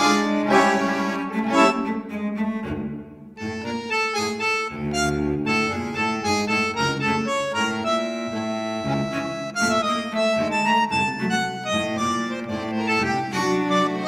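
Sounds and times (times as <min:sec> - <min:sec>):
sustained string-like notes: 0:00.0 - 0:14.0.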